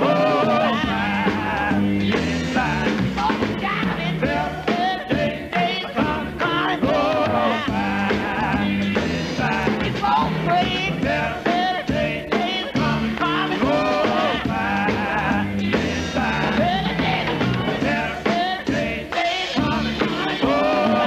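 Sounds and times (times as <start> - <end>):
gospel quartet singing in harmony: 0.0 - 21.0
instrumental backing with bass line: 0.0 - 21.0.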